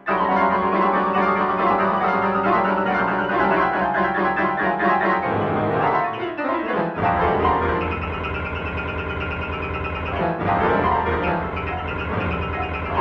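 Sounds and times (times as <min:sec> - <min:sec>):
cluttered midi piano chords: 0:00.0 - 0:13.0.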